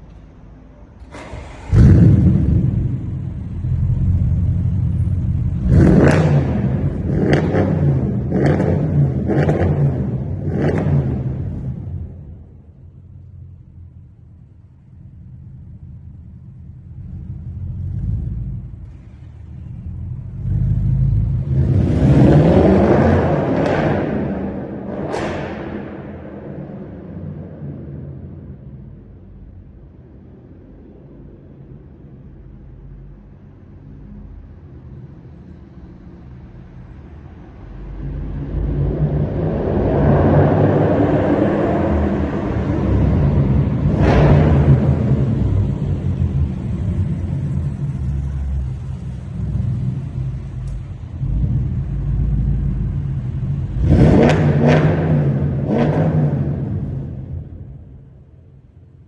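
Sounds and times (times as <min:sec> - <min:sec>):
car exhaust rumbling and revving: 0:01.0 - 0:59.0.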